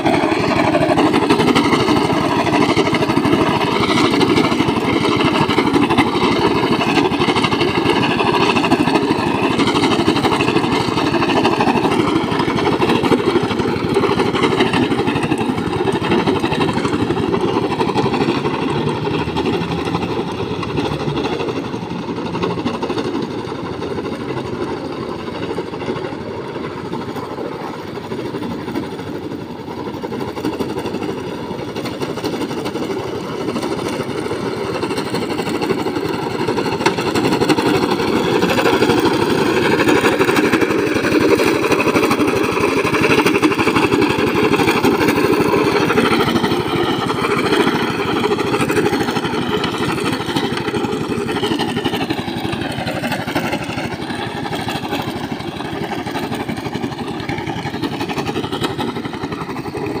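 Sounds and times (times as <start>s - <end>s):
lawn mower engine running: 0.0s - 60.0s.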